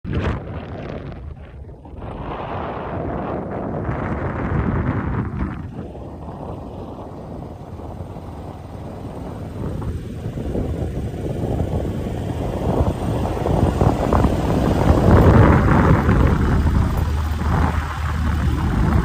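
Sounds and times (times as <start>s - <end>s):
road traffic rumble: 0.2s - 19.0s.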